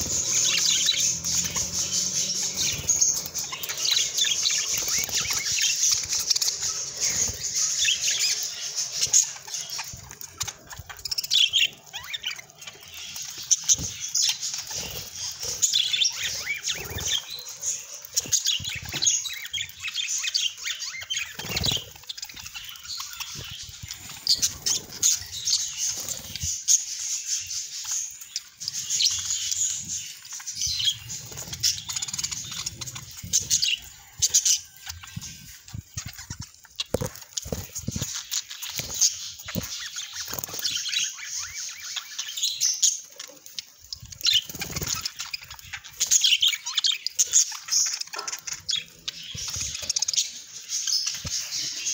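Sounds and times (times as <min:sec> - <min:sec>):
budgerigars chirping: 0:00.0 - 0:51.9.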